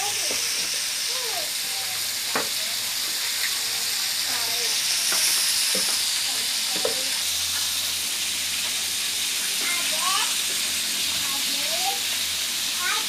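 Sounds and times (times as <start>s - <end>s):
fish deep-frying in hot oil: 0.0s - 13.0s.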